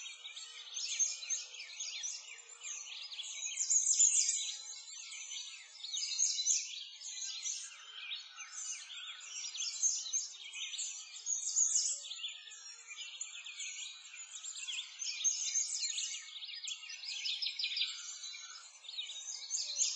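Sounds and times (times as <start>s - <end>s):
songbirds chirping and trilling: 0.0s - 19.9s.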